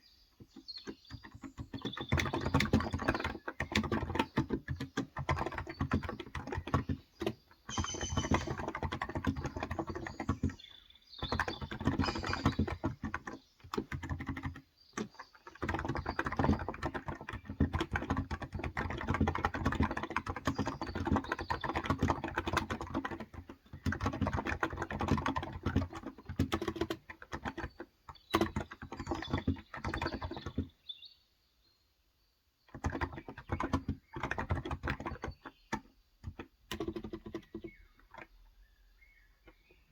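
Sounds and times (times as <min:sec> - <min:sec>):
birds chirping faintly: 0:00.0 - 0:39.9
fast keyboard typing: 0:00.5 - 0:30.7, 0:32.7 - 0:38.4.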